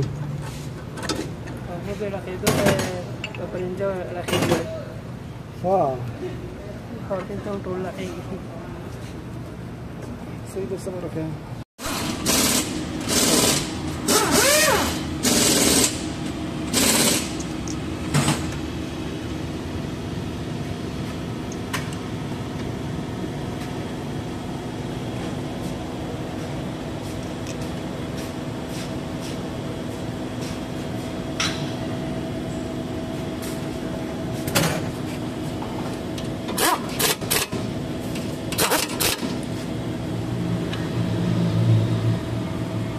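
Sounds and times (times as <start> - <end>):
steady machine hum: 4.8 - 42.9.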